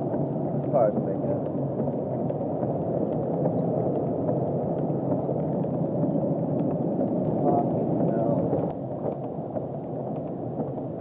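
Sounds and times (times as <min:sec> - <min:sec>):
faint ticks: 0:00.0 - 0:11.0.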